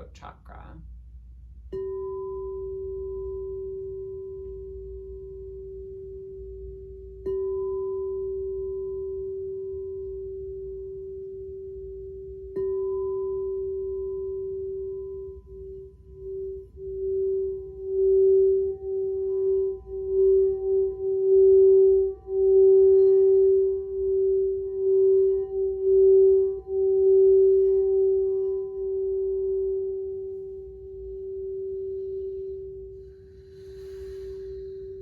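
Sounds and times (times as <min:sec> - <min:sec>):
singing bowl rimmed: 0:01.7 - 0:35.0.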